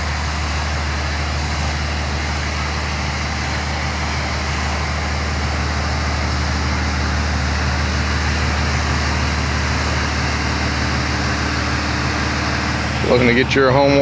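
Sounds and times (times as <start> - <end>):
pressure washer engine humming: 0.0 - 14.0.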